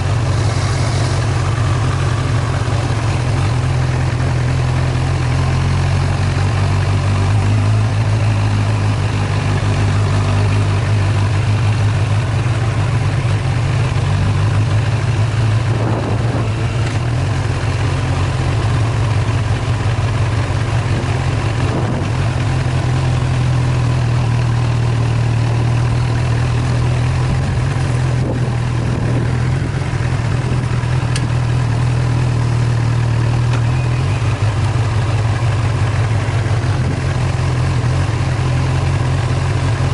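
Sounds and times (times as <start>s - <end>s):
vehicle engine running: 0.0s - 39.9s
wind and tyre noise: 0.0s - 39.9s.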